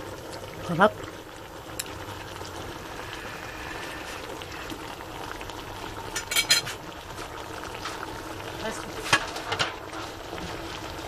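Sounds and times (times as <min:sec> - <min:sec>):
stew bubbling in pot: 0:00.0 - 0:11.0.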